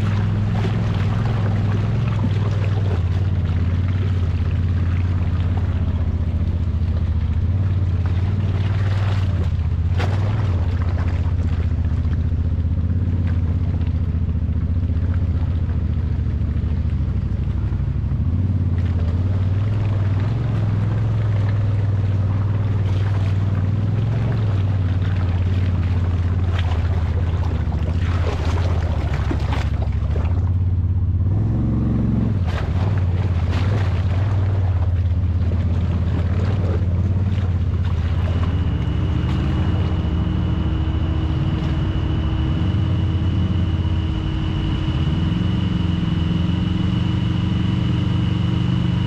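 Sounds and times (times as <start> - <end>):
off-road vehicle engine running: 0.0 - 49.0.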